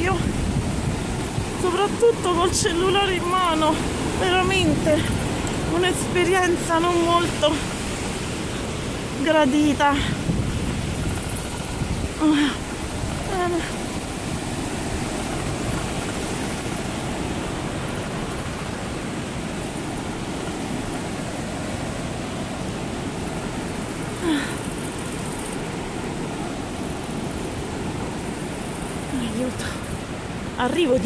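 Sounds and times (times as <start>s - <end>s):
wind buffeting microphone: 0.0s - 31.0s
zipline trolley running on cable: 0.0s - 31.0s.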